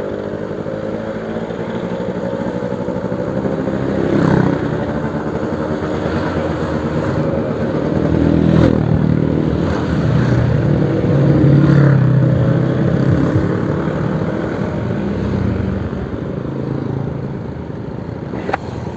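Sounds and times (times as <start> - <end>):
two-stroke motorcycle engine: 0.0 - 18.9.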